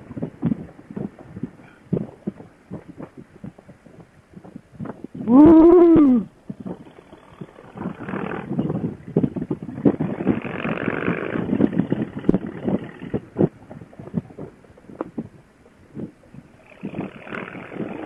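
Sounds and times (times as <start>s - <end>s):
wind buffeting helmet microphone: 0.0s - 18.0s.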